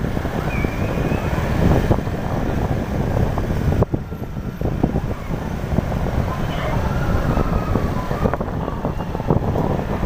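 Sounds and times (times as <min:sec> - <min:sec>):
road traffic: 0:00.0 - 0:10.0
wind buffeting microphone: 0:00.0 - 0:10.0.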